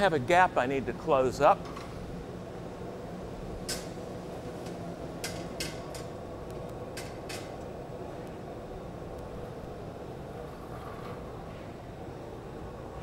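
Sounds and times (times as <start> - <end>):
furnace and ventilation hum: 0.0 - 13.0.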